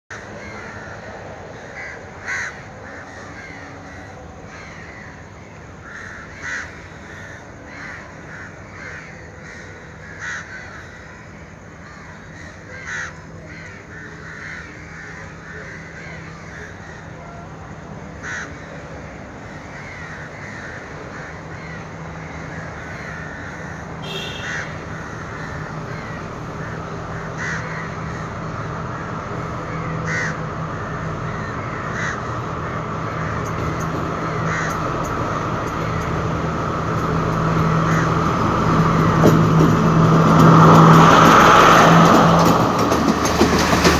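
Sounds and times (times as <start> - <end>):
chorus of small birds: 0.1 - 36.1
crows cawing: 0.1 - 42.2
diesel train engine idling: 0.1 - 43.9.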